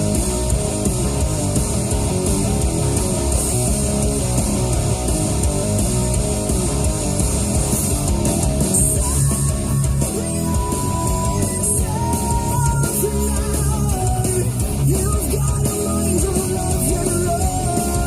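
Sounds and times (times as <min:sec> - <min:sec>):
heavy metal on car stereo: 0:00.0 - 0:18.0.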